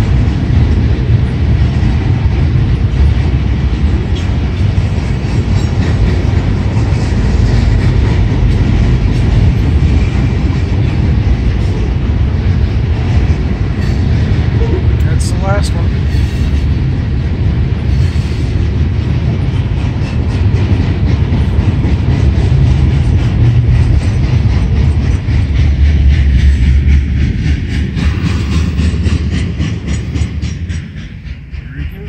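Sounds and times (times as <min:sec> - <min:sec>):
freight train rumbling: 0:00.0 - 0:32.0
wheels clickety-clack on rail joints: 0:00.0 - 0:32.0.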